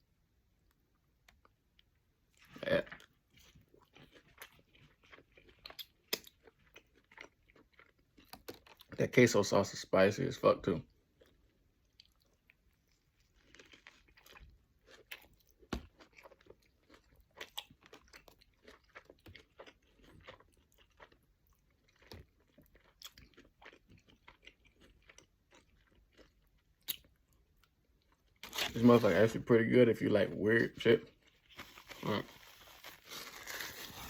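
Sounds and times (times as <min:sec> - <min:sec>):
chewing and biting burger: 0:01.3 - 0:09.0, 0:10.9 - 0:29.0, 0:31.1 - 0:34.0.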